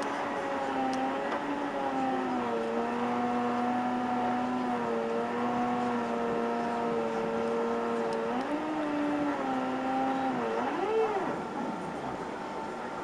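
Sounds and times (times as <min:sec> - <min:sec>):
jet engines whining in cabin: 0:00.0 - 0:13.0.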